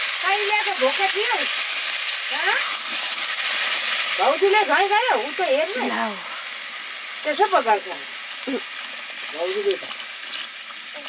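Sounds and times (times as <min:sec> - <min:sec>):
rice sizzling in hot oil: 0:00.0 - 0:11.0.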